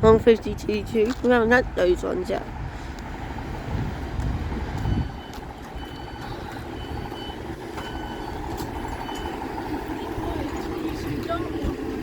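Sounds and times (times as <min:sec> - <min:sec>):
diesel train rumble: 0:00.0 - 0:12.0.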